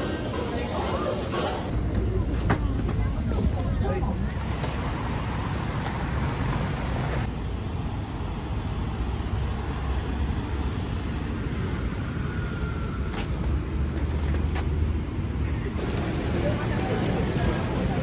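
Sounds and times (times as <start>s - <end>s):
vehicle rumble and road noise: 0.0s - 18.0s.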